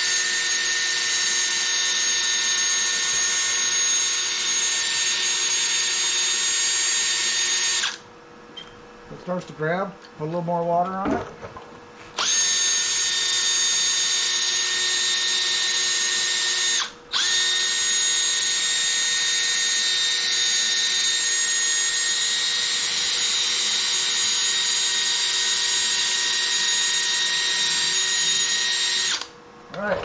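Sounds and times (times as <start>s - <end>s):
cordless drill motor whine: 0.0s - 8.0s, 12.2s - 29.3s.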